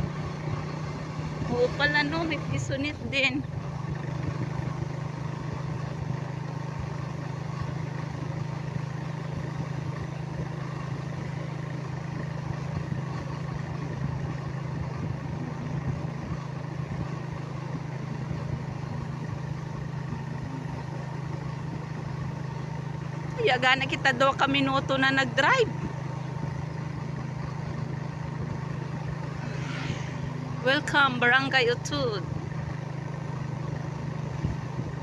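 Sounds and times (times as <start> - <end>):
motorcycle engine cruising: 0.0 - 35.0
road noise: 0.0 - 35.0.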